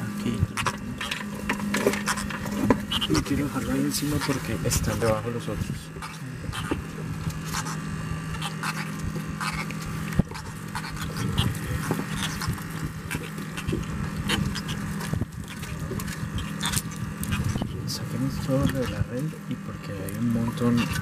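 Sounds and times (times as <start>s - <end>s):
catfish croaking: 0.0s - 21.0s
low hum: 0.0s - 21.0s.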